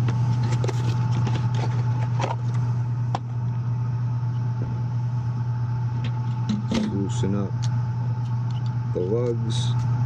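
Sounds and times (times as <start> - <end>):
low machinery hum: 0.0 - 10.0.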